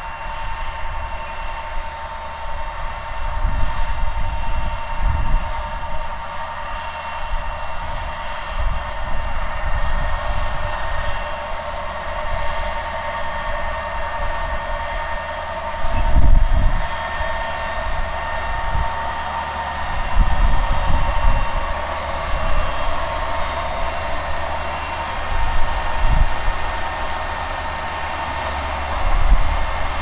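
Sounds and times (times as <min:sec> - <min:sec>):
tractor diesel engine running: 0:00.0 - 0:30.0
wind buffeting microphone: 0:00.0 - 0:30.0.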